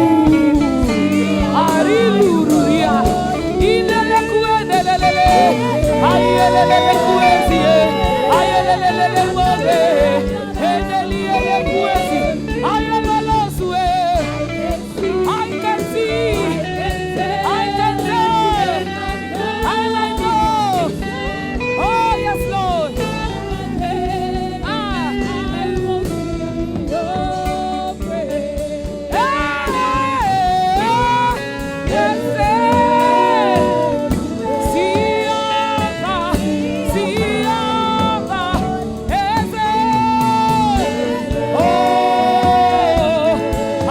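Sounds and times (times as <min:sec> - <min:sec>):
instrumental backing: 0:00.0 - 0:43.9
person singing: 0:00.0 - 0:43.9.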